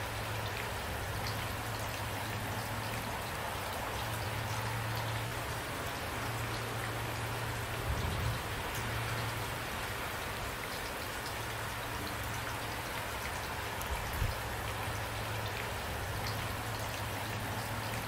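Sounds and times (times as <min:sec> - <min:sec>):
rain pattering on a surface: 0:00.0 - 0:18.0.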